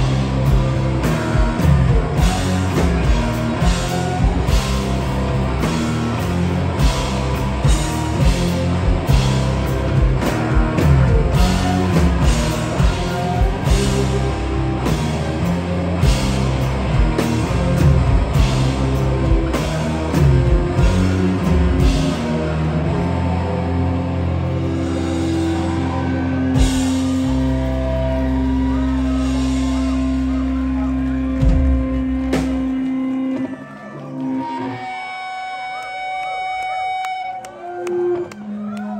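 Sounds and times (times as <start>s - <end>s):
drum kit: 0.0s - 33.6s
electric guitar: 0.0s - 38.9s
live rock band playing: 0.0s - 38.9s.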